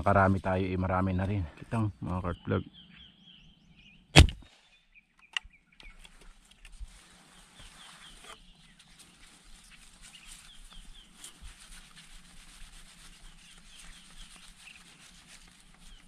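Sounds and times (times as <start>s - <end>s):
small bird chirping: 0.0s - 11.7s, 12.9s - 16.0s.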